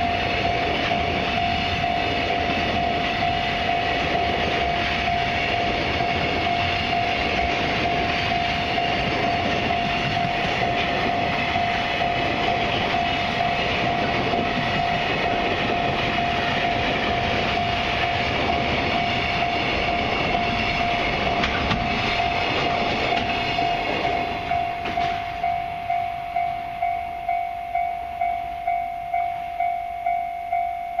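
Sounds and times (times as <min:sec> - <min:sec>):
freight train rolling past: 0:00.0 - 0:31.0
level-crossing alarm ringing: 0:00.0 - 0:31.0.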